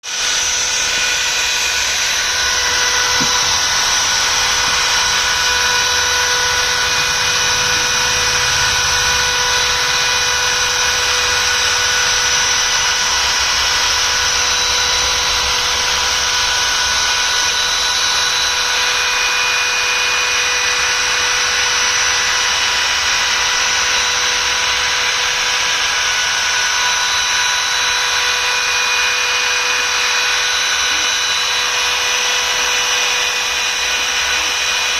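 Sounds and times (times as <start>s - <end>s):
engraving spindle whine: 0.0s - 34.9s.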